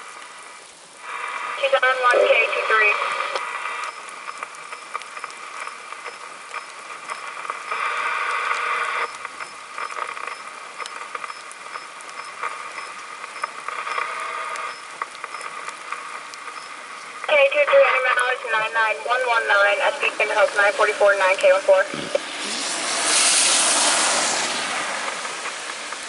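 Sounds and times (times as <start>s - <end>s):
raindrop ticks: 0.0s - 17.3s, 18.0s - 22.3s, 24.6s - 26.0s
rain on a car: 0.0s - 26.0s.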